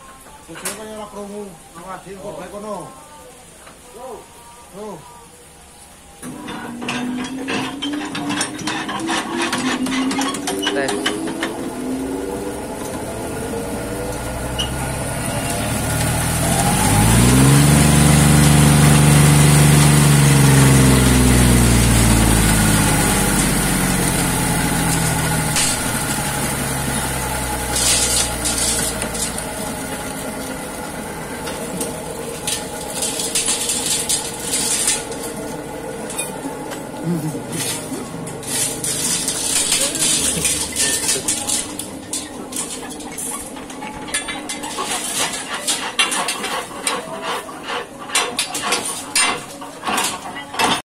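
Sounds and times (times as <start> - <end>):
hammer mill drive hum: 6.2 - 50.2
rattles and clicks: 6.2 - 50.8.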